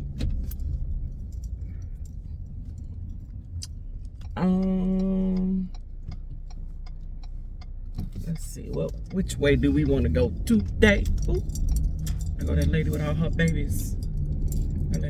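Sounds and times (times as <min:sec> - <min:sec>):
car running inside cabin: 0:00.0 - 0:15.0.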